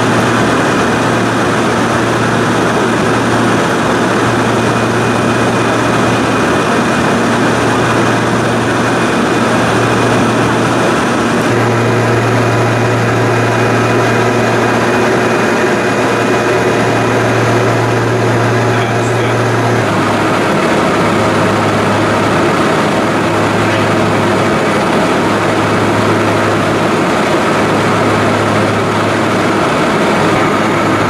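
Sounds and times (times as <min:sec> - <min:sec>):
loud engine drone: 0:00.0 - 0:31.0.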